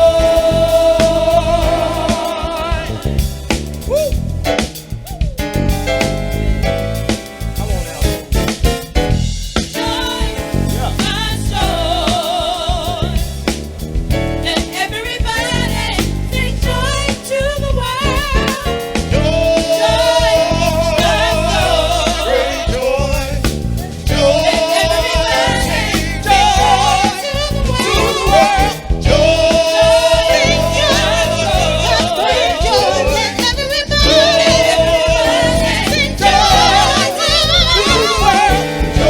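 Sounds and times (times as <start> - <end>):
drums: 0.0 - 39.0
gospel singing: 0.0 - 39.0
keyboard: 0.0 - 39.0.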